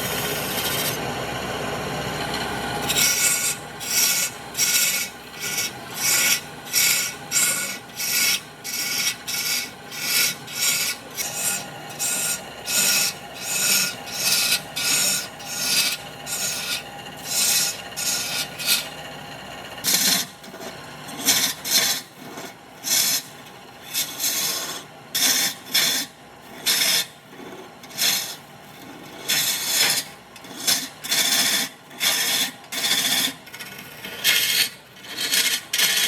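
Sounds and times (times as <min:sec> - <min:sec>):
rasp scraping wood: 0:02.3 - 0:19.0, 0:19.8 - 0:23.3, 0:23.9 - 0:36.0.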